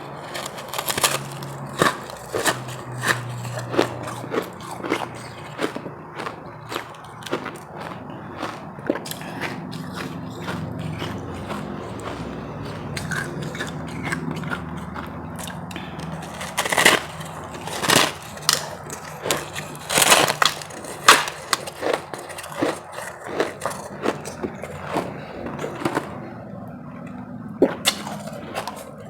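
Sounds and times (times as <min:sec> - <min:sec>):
ice crunching being chewed: 0:00.0 - 0:29.0.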